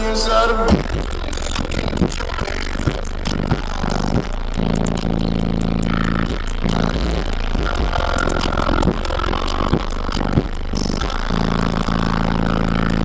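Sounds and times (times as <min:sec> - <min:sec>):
loud deep bass: 0:00.0 - 0:13.0.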